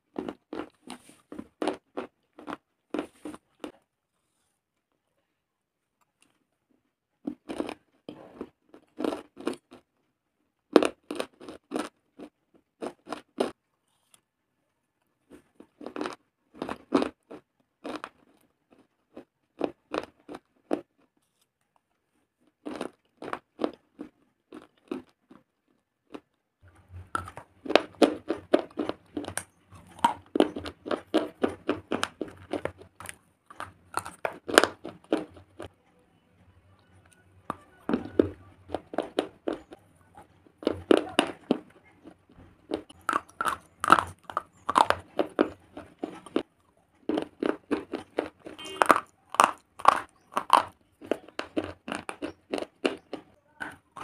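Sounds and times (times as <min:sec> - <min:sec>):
crunching of hard clay chewed: 0:00.0 - 0:03.9, 0:06.0 - 0:14.3, 0:15.0 - 0:35.7, 0:36.8 - 0:54.0.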